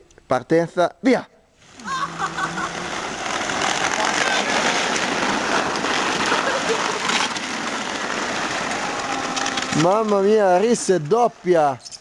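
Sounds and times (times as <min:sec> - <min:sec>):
sleds scraping on snow: 0:01.6 - 0:12.0.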